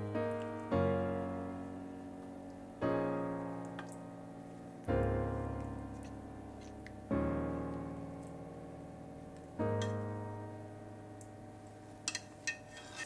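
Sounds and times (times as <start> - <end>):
slow piano chords: 0.0 - 12.6.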